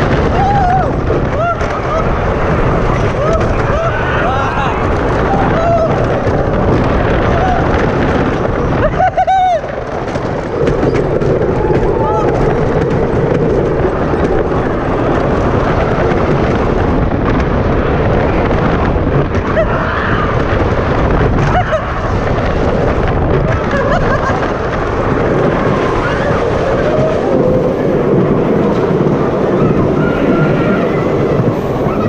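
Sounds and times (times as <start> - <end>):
roller coaster wheels on track: 0.0 - 32.0
wind blowing on microphone: 0.0 - 32.0.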